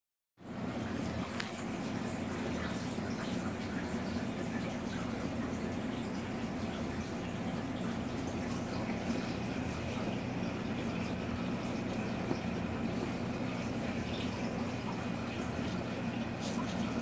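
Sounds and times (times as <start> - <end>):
low pump hum: 0.4 - 17.0
water rushing and trickling: 0.6 - 17.0.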